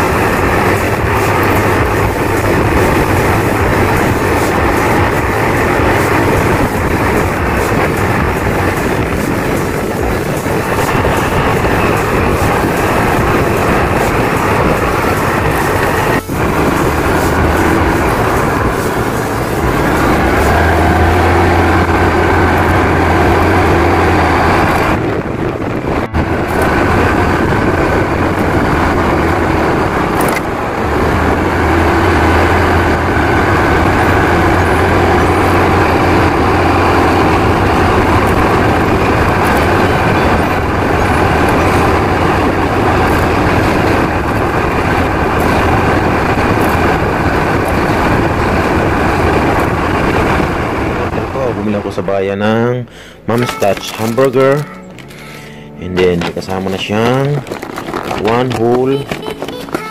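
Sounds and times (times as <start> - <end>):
small motorcycle engine running: 0.0 - 52.0
wind rushing: 0.0 - 59.4.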